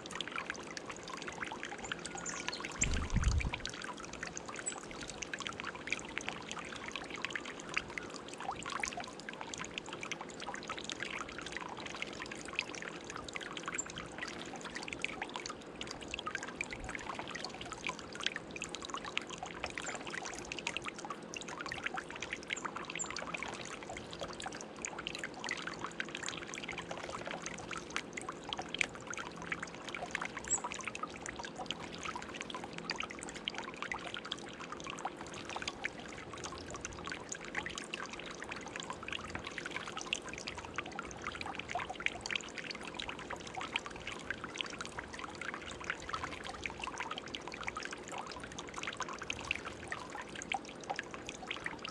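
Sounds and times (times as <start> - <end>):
fountain water trickling and splashing: 0.0 - 51.9.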